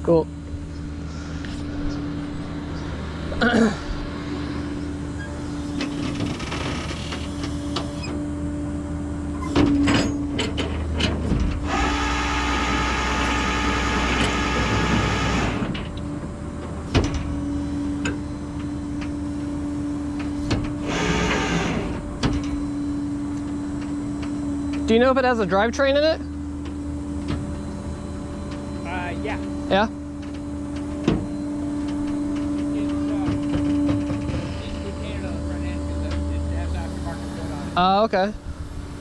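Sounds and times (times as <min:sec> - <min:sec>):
truck engine hum: 0:00.0 - 0:39.0
loud mechanical whirring: 0:00.4 - 0:39.0.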